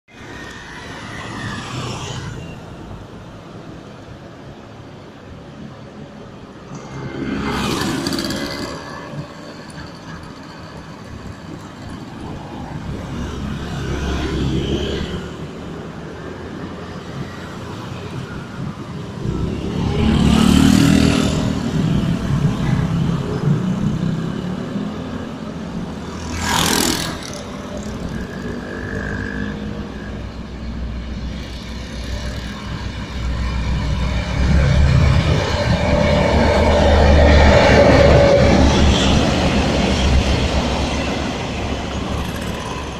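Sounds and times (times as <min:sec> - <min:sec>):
freight train rumbling on rails: 0:00.1 - 0:42.9.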